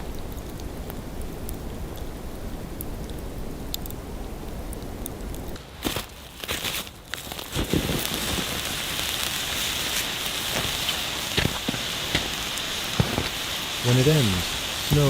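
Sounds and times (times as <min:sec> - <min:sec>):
fire pops and crackles: 0:00.0 - 0:15.0
wood fire hissing: 0:00.0 - 0:15.0.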